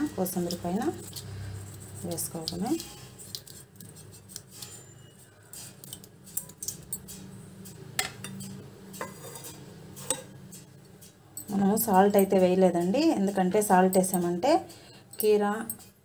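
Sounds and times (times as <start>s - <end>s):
utensils clinking on steel bowl: 0.0s - 16.0s.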